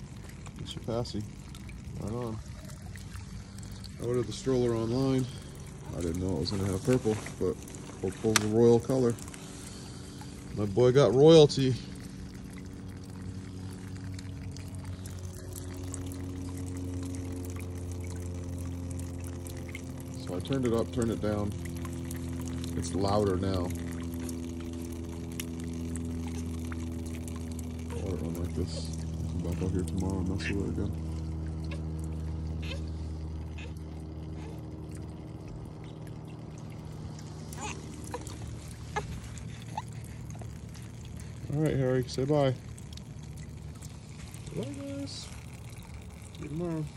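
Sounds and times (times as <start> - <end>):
fountain water pouring over rocks: 0.0 - 46.9
steady low hum: 0.0 - 46.9.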